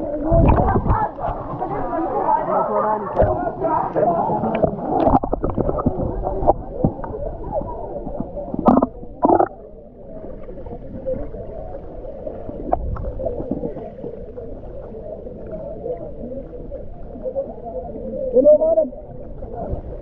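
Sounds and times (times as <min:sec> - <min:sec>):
underwater water gurgling: 0:00.0 - 0:20.0.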